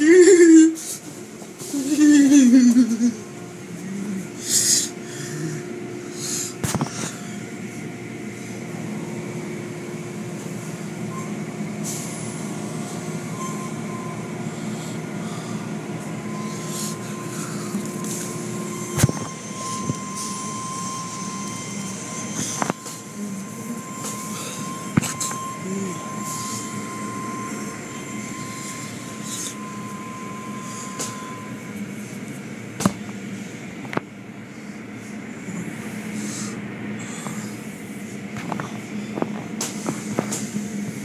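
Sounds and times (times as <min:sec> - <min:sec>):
car wash machinery hum: 0:00.0 - 0:41.0.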